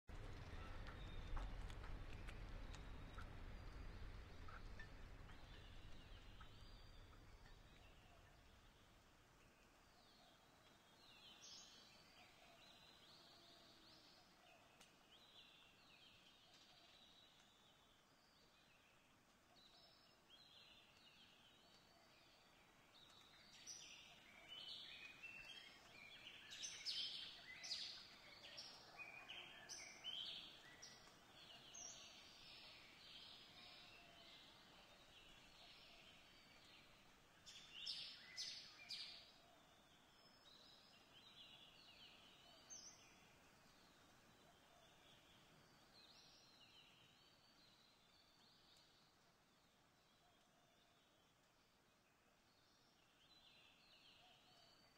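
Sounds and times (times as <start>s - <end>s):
small birds chirping: 0.1s - 54.9s.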